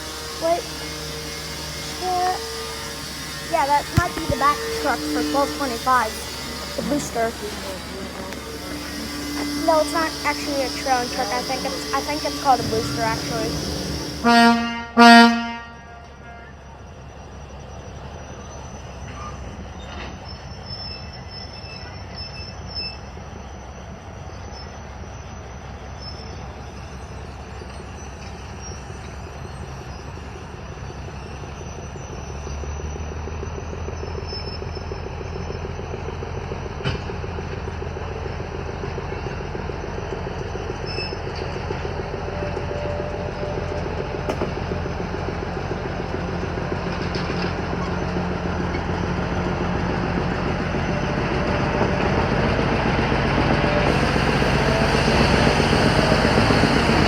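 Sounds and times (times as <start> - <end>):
locomotive humming: 0.0 - 57.0.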